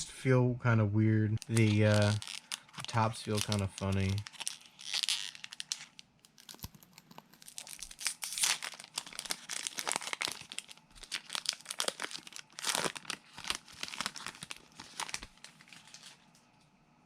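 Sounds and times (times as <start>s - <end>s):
foil pack tearing and crinkling: 1.4s - 16.2s.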